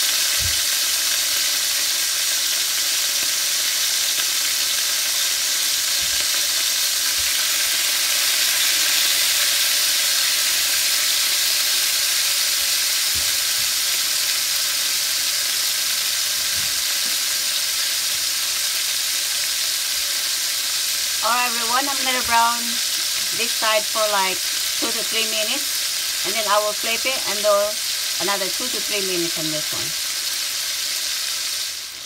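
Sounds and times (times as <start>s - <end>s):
chicken sizzling in hot oil: 0.0s - 32.0s.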